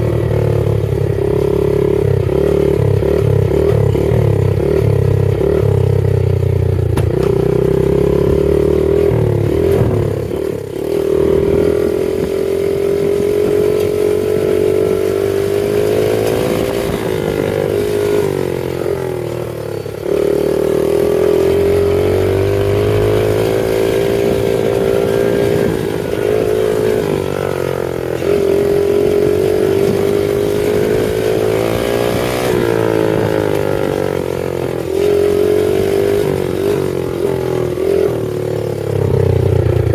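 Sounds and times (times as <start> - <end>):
small motorbike engine revving: 0.0 - 39.9.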